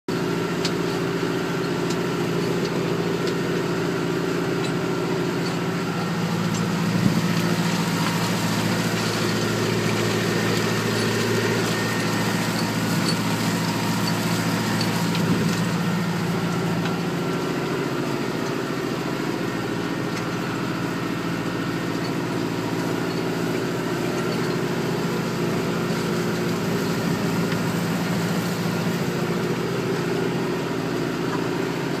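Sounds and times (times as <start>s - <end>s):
tractor diesel engine running: 0.1s - 32.0s.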